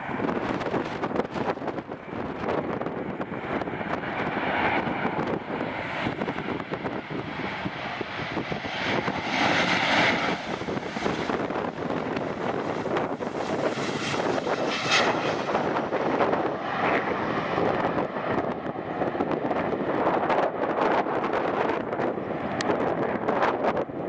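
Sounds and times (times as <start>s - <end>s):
jet engines on landing: 0.0s - 24.0s.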